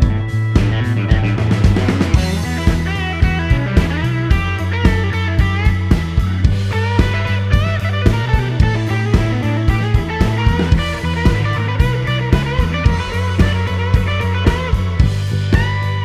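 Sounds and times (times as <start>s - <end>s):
bass line: 0.0s - 16.0s
drum kit beat: 0.0s - 16.0s
electric guitar: 0.0s - 16.0s.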